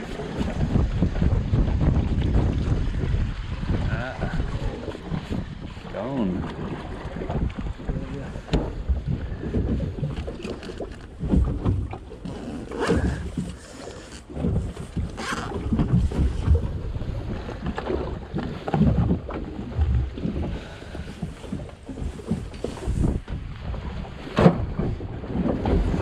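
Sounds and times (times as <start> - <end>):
wind gusting on microphone: 0.0 - 10.5, 14.4 - 26.0
water washing against hull: 0.0 - 26.0.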